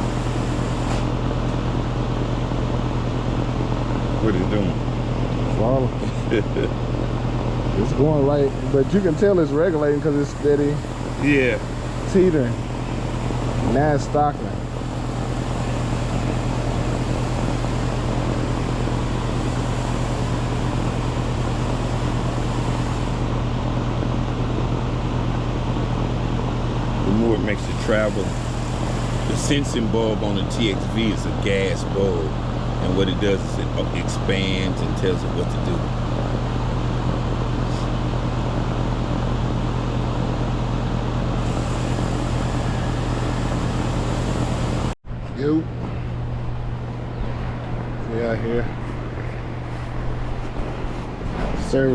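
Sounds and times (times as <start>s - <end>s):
compressor low hum: 0.0s - 51.9s
fan rush of air: 0.0s - 51.9s.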